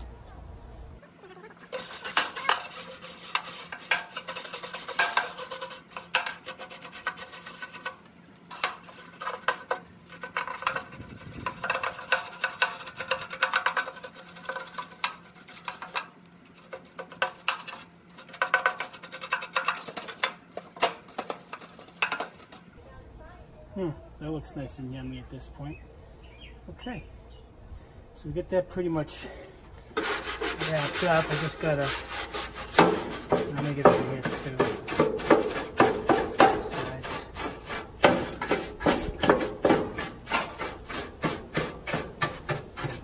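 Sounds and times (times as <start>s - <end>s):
scrub brush scrubbing grill: 1.0s - 22.7s, 29.9s - 43.0s.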